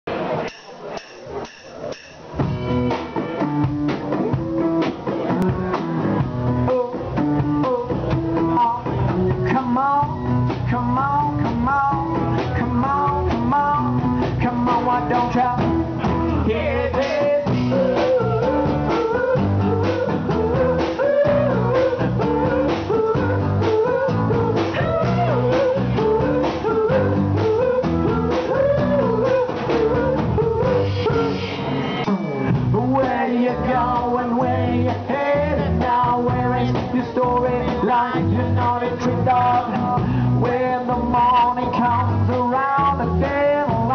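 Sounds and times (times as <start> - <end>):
guitar: 0.1 - 43.9
steady drum beat: 0.1 - 43.9
person singing lead vocal: 5.2 - 43.9.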